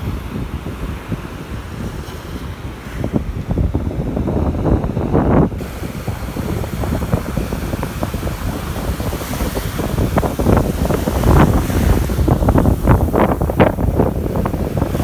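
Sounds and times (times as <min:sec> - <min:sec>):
small waves washing on sand: 0:00.0 - 0:15.0
wind buffeting microphone: 0:00.0 - 0:15.0.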